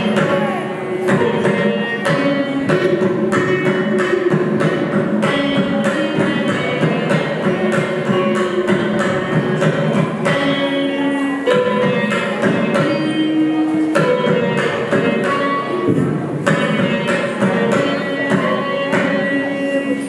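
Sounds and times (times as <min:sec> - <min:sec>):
mridangam drum strokes: 0:00.0 - 0:20.0
veena melody: 0:00.0 - 0:20.0.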